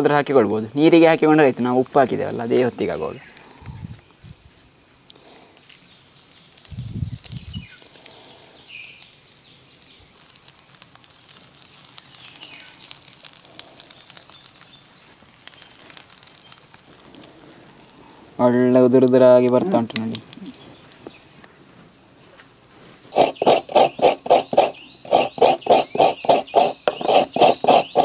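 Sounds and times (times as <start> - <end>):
birds chirping: 0.0 - 10.2, 12.1 - 28.0
light steady crackling: 0.0 - 28.0.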